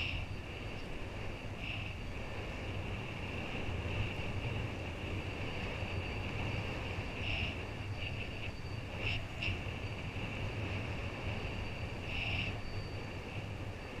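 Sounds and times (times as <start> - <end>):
high-pitched whine: 0.0 - 14.0
wind buffeting microphone: 0.0 - 14.0.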